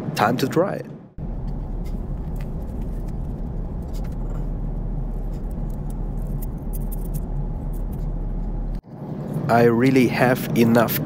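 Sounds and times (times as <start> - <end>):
airplane cabin drone: 1.2 - 11.0.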